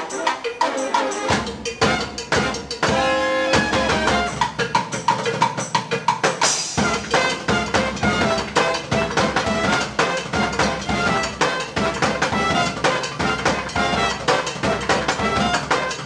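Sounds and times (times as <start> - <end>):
saxophones playing: 0.0 - 4.4, 6.8 - 16.0
fast drum-kit beat: 0.0 - 16.0.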